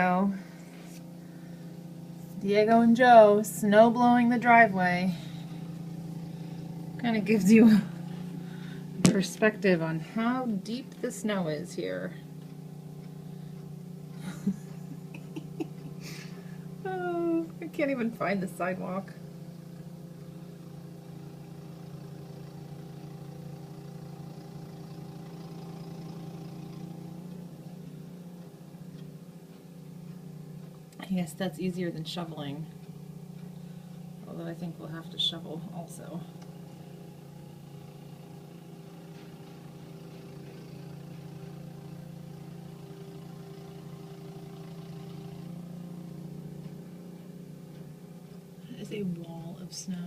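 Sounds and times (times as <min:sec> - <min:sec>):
snowblower engine droning: 0:00.0 - 0:50.0.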